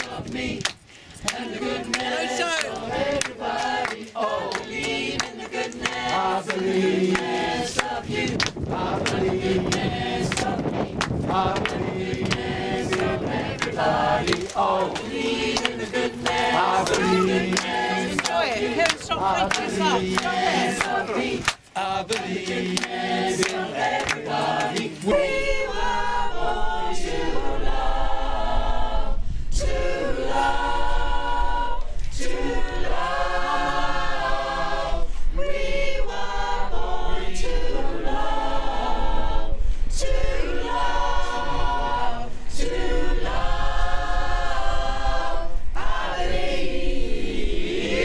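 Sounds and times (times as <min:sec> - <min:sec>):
choir singing a cappella: 0:00.0 - 0:48.0.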